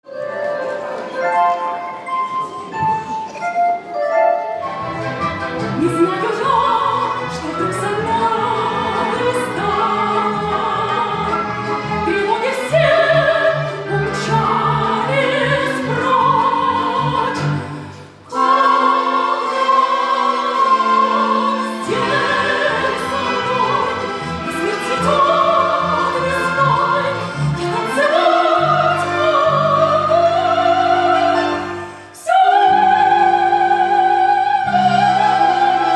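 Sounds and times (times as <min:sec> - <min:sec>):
classical instrumental accompaniment: 0:00.0 - 0:35.9
operatic singing: 0:04.5 - 0:35.9.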